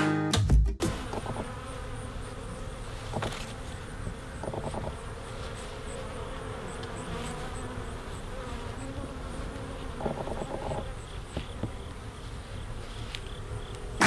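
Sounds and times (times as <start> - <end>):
bees buzzing: 0.8 - 14.0.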